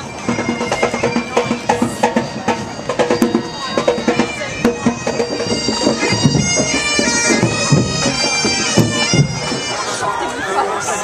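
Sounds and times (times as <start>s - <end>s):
drum beats: 0.0s - 10.4s
bagpipes playing: 0.0s - 11.0s.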